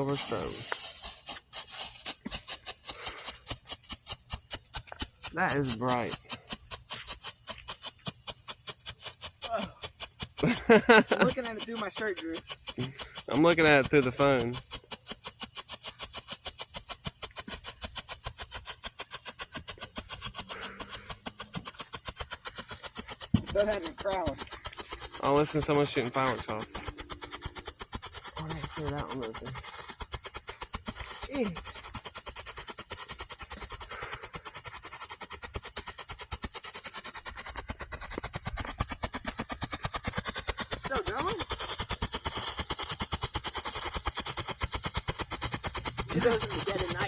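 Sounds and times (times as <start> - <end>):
strobe firework popping: 0.0 - 47.0.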